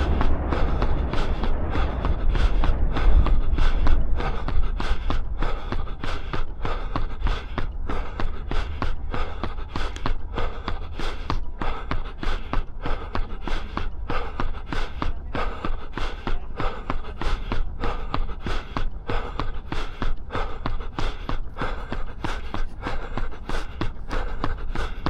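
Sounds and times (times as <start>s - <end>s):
hard rhythmic breathing: 0.0s - 25.0s
running footsteps: 0.0s - 25.0s.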